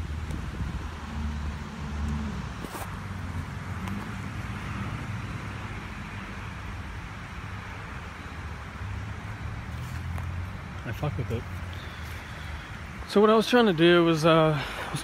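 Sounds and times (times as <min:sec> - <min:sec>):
soft outdoor hiss: 0:00.0 - 0:15.0.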